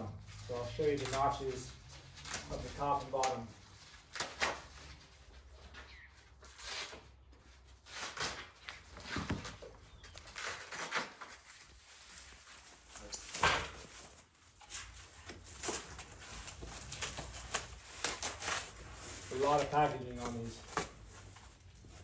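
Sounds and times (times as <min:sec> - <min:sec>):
packaging rustling and scraping: 0:00.0 - 0:22.0.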